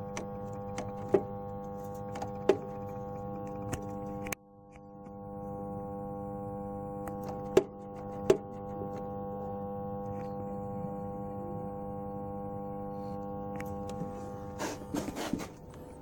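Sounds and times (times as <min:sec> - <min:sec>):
jukebox electrical hum: 0:00.0 - 0:16.0.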